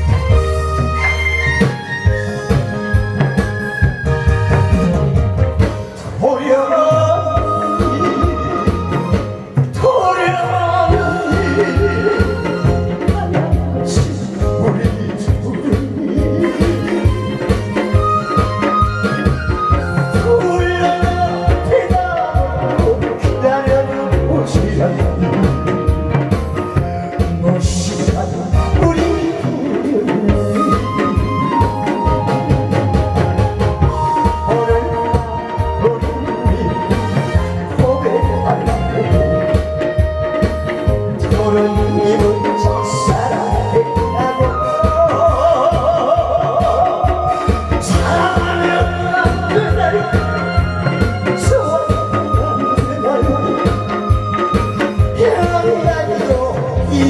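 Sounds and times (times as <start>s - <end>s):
drum-kit beat: 0.0s - 57.0s
person singing: 0.0s - 57.0s
pop song over sound system: 0.0s - 57.0s.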